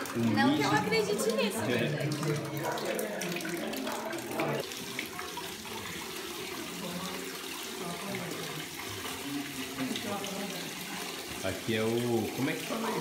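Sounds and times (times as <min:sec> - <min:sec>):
water trickling into rock pool: 0:00.0 - 0:13.0.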